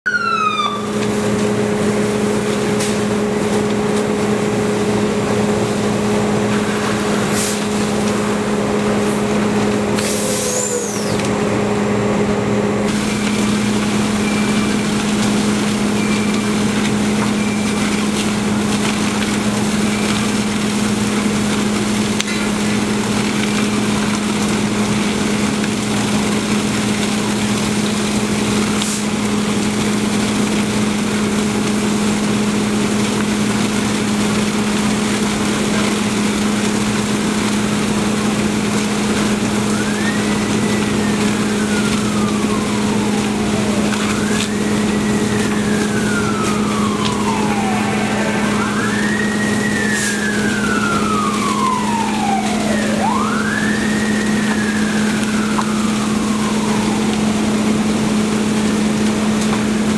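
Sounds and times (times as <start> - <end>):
fire engine pump droning: 0.0 - 59.9.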